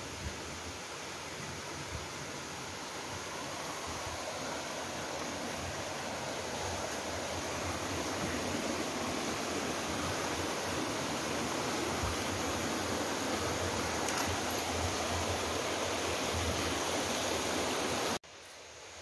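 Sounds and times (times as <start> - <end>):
creek water running over rocks: 0.0 - 19.0.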